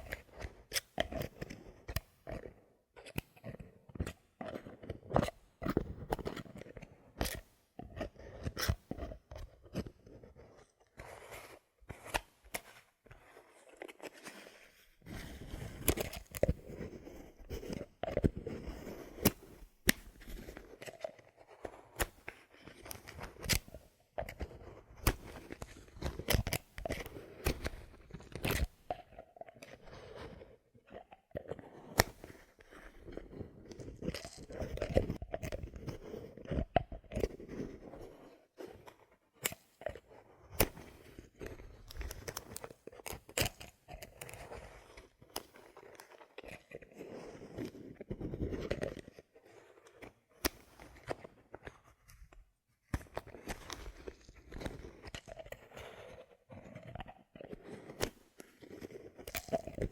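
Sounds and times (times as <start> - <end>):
crackly scratching: 0.0 - 59.9.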